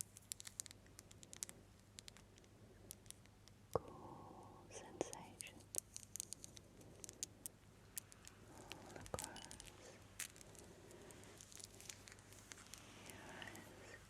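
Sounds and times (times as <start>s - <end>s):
faint soft hiss: 0.0s - 14.0s
soft crackles and clicks: 0.0s - 14.0s.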